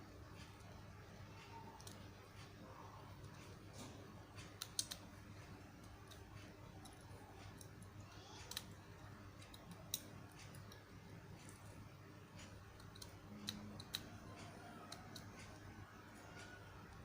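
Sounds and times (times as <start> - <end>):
low steady hum: 0.0 - 17.0
small clicks and taps: 0.3 - 17.0.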